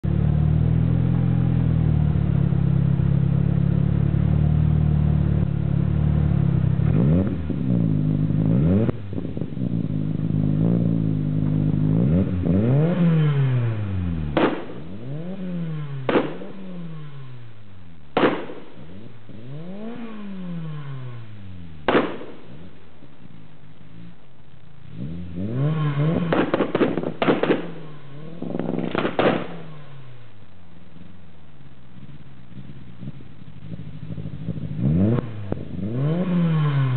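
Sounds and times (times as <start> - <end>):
car engine revving: 0.0 - 36.9
exhaust bangs and pops: 0.0 - 36.9.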